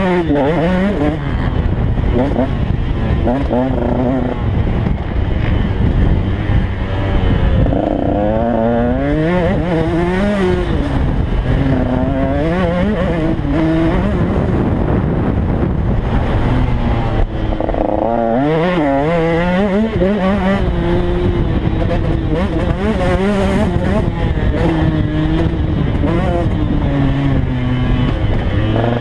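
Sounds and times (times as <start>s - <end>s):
dirt bike engine revving: 0.0s - 29.0s
wind buffeting microphone: 0.0s - 29.0s.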